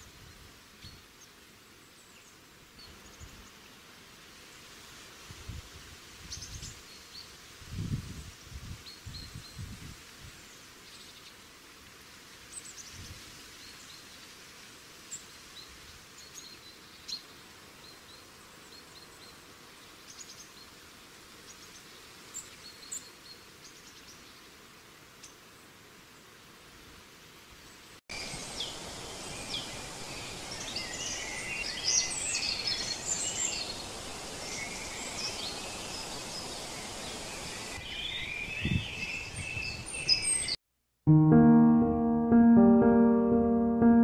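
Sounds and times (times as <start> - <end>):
steady background hiss: 0.0 - 9.1, 9.8 - 39.9.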